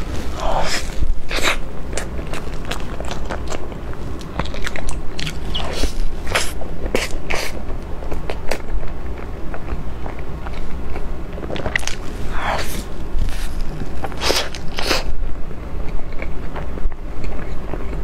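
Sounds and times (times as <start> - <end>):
person chewing with mouth smacks: 0.1 - 15.2.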